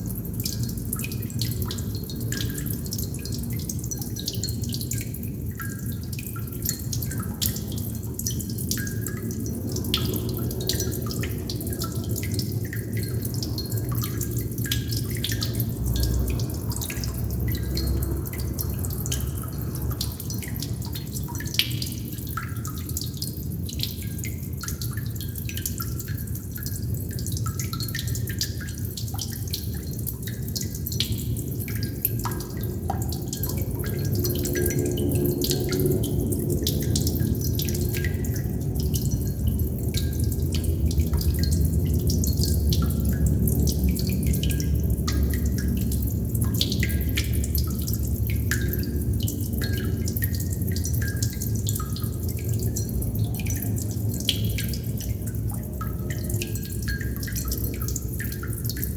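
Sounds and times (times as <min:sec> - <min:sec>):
low rush of water: 0:00.0 - 0:58.9.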